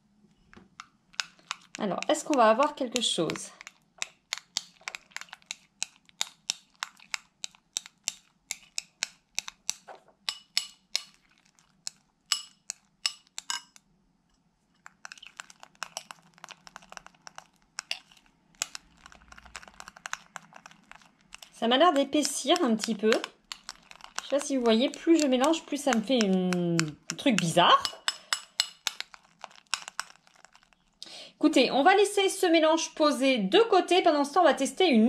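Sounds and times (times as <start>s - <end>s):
metal spoon stirring slime in bowl: 0.7s - 13.9s, 14.7s - 31.0s.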